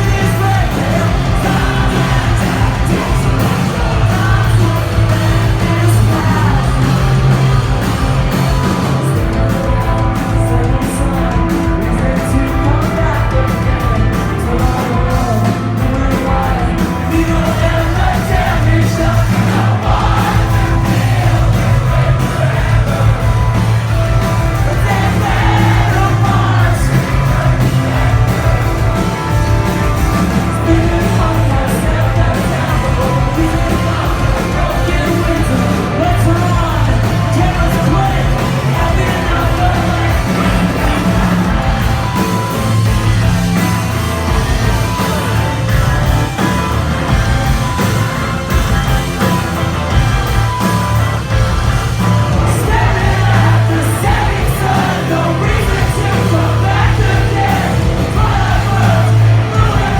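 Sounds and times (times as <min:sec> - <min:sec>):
live rock band playing loud: 0:00.0 - 0:59.9.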